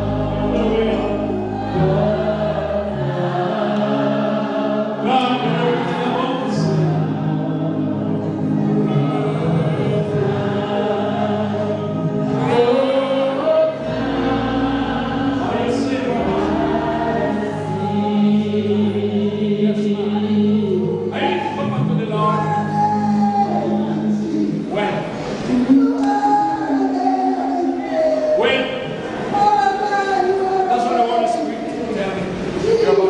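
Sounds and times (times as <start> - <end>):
choir and band accompaniment: 0.0 - 33.0
congregation singing: 0.0 - 33.0.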